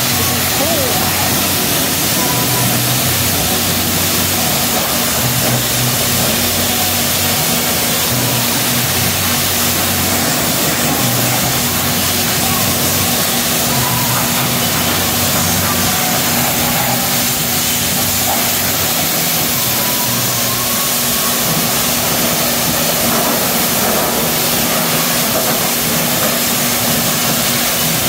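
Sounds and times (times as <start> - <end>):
high-pressure water spray hiss: 0.0 - 28.0.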